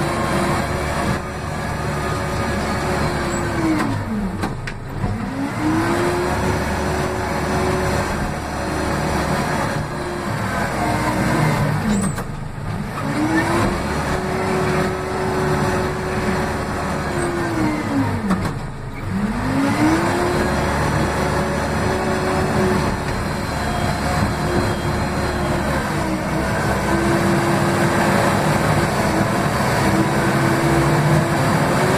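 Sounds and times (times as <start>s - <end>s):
diesel engine revving: 0.0s - 31.9s.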